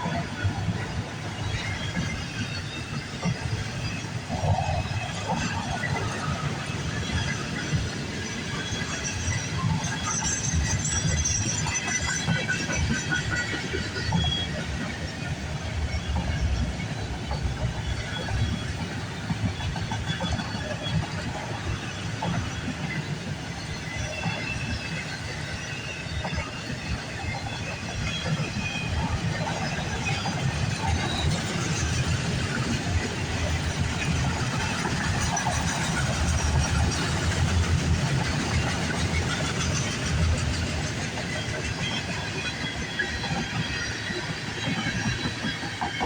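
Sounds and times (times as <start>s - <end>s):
freight train rumbling past: 0.0s - 46.0s.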